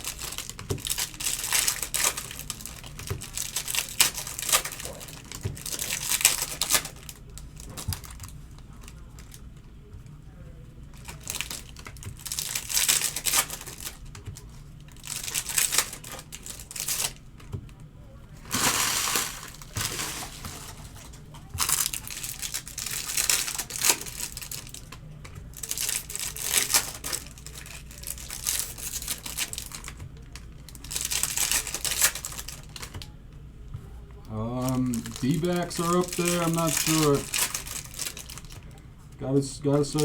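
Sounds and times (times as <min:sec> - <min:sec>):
foil wrappers crinkling and tearing: 0:00.0 - 0:09.5, 0:10.9 - 0:17.5, 0:18.4 - 0:33.1, 0:34.5 - 0:40.0.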